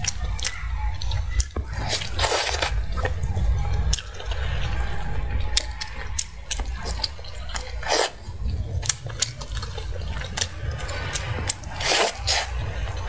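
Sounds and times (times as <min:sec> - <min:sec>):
wet squelching chewing: 0:00.0 - 0:13.0.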